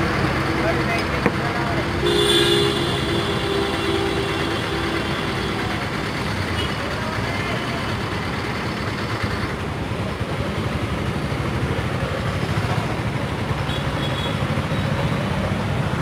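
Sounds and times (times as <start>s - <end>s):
street noise: 0.0s - 16.0s
vehicle engine running close by: 0.0s - 16.0s.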